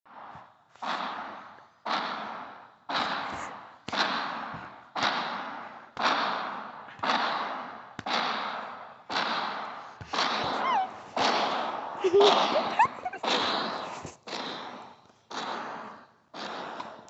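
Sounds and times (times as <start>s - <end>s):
heavy echoing monster footsteps: 0.1s - 17.0s.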